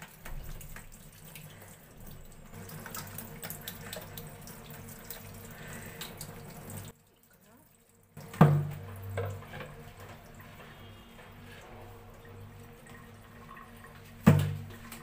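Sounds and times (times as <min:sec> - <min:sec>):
water dripping into metal sink: 0:00.0 - 0:15.0.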